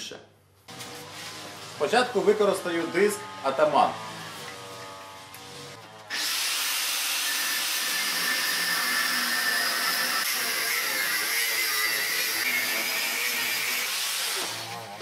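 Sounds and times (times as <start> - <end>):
angle grinder cutting steel: 0.7 - 15.0.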